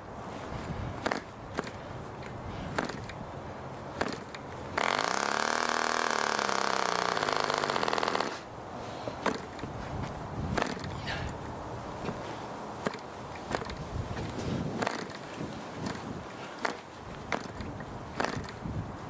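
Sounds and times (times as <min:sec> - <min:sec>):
propeller flick clicks: 0:00.6 - 0:08.5, 0:09.1 - 0:12.2, 0:12.8 - 0:18.7.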